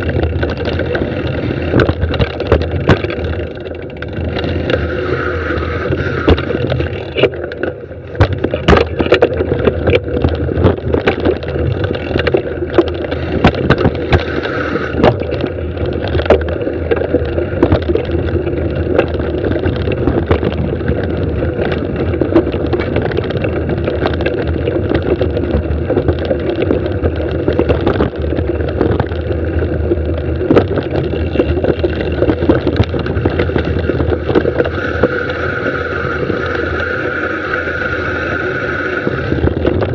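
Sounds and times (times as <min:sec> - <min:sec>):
bike knocking and rattling: 0:00.0 - 0:39.9
bike tyres rumbling on dirt: 0:00.0 - 0:39.9.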